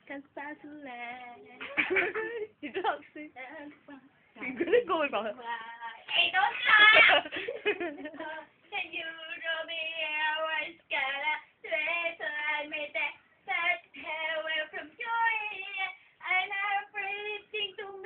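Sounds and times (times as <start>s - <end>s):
woman singing unaccompanied: 0.0s - 7.3s, 8.0s - 18.0s.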